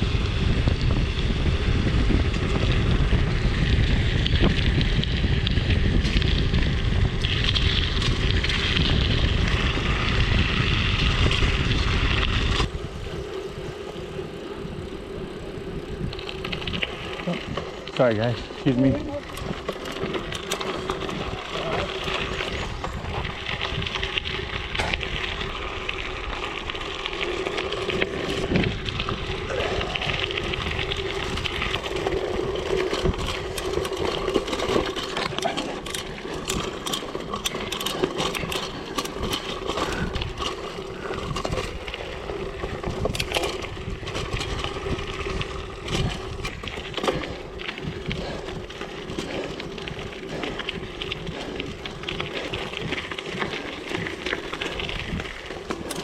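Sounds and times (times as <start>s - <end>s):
bike tyres crunching gravel: 0.0s - 56.0s
low tyre hum: 0.0s - 56.0s
stones popping under wheels: 0.0s - 56.0s.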